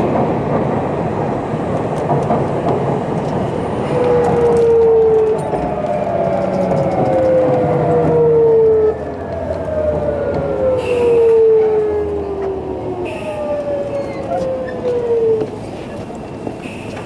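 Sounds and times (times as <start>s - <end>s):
rail-joint clicks: 0.0s - 17.0s
wheel and track rumble: 0.0s - 17.0s.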